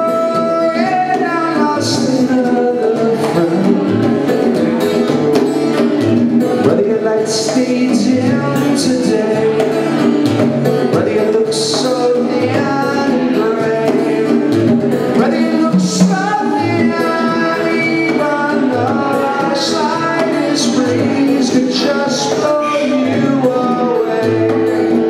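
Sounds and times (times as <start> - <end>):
bongos playing: 0.0 - 25.0
guitar playing: 0.0 - 25.0
man singing: 0.0 - 25.0.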